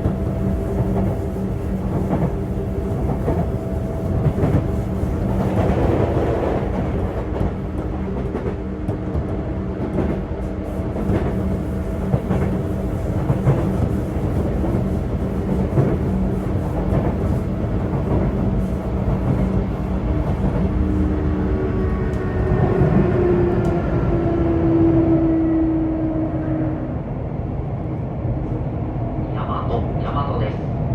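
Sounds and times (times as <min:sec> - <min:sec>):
train motor and inverter hum: 0:00.0 - 0:30.9
train wheel rumble: 0:00.0 - 0:30.9.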